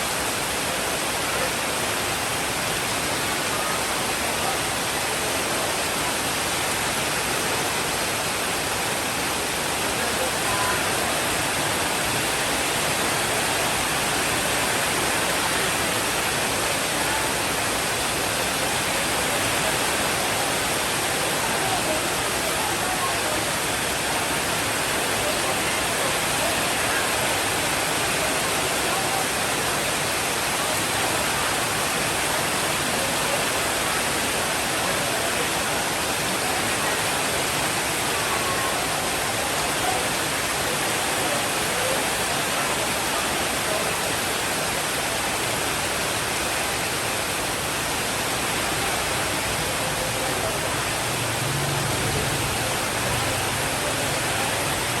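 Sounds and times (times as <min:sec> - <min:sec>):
steady heavy rain: 0:00.0 - 0:55.0.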